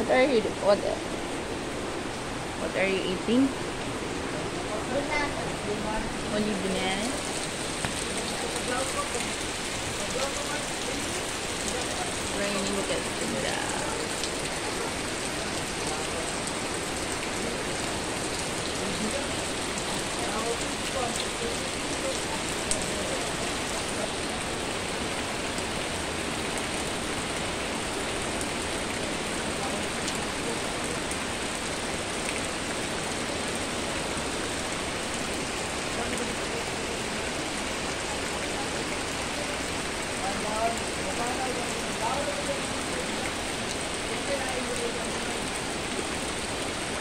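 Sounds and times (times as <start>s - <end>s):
rain on leaves and puddles: 0.0s - 47.0s.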